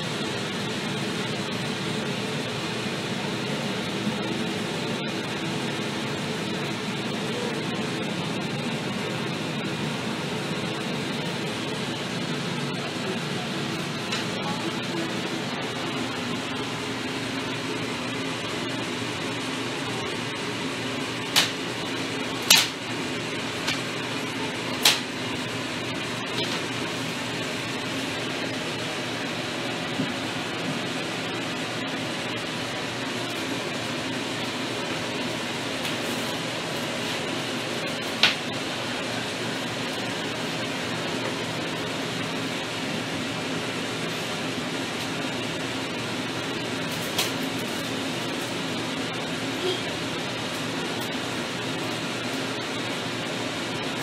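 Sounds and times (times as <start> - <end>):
fan hum: 0.0 - 54.0.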